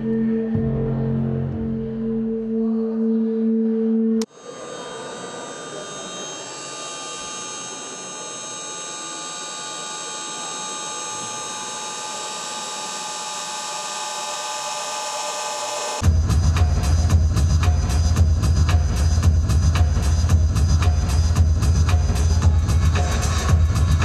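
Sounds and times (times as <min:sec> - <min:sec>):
electronic music synth drone: 0:00.0 - 0:24.0.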